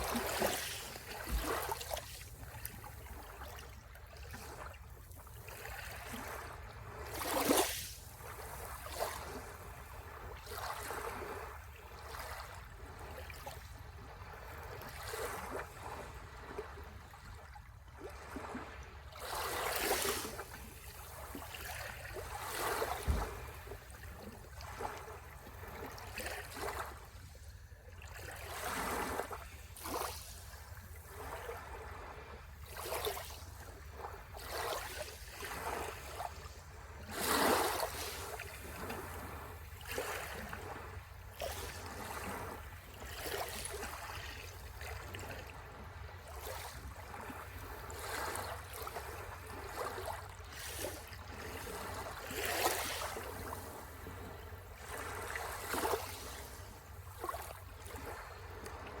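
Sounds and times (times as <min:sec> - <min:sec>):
sea waves splashing on shore: 0:00.0 - 0:12.7, 0:18.2 - 0:27.7, 0:28.4 - 0:45.2, 0:46.3 - 0:58.9.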